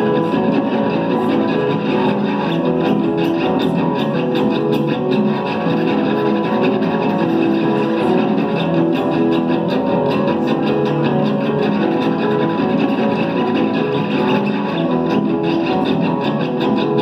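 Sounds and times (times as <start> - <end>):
electric guitar: 0.0 - 17.0
live rock band playing: 0.0 - 17.0.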